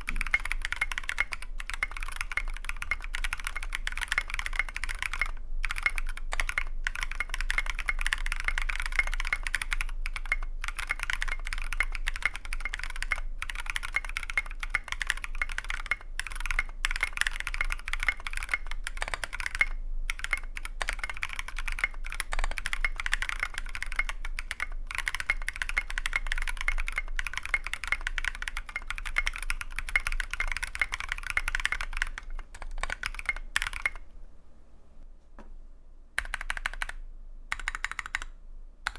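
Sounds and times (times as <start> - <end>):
fast mechanical keyboard typing: 0.0 - 34.1, 36.2 - 38.9.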